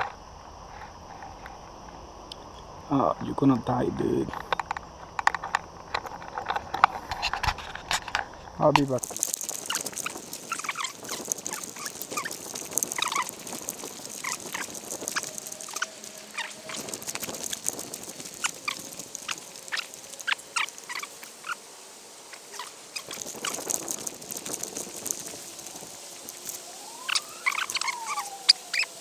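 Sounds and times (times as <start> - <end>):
leaves and brush rustling: 0.0 - 29.0
footsteps on dirt trail: 4.3 - 21.6, 22.3 - 28.9.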